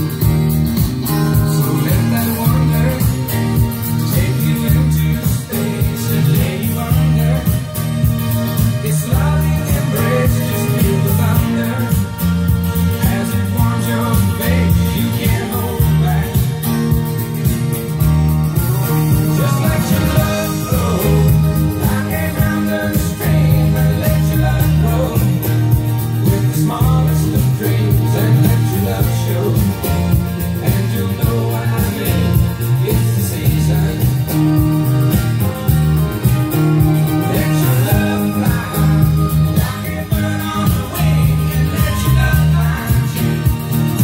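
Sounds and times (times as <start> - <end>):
guitar music over loudspeakers: 0.0 - 44.0.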